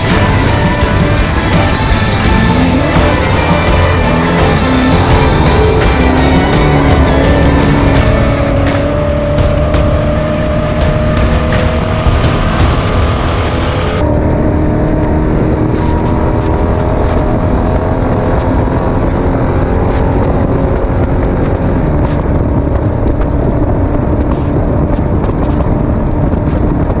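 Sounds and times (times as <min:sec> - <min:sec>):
heavy low rumble: 0:00.0 - 0:27.0
truck engine running hard: 0:00.0 - 0:27.0.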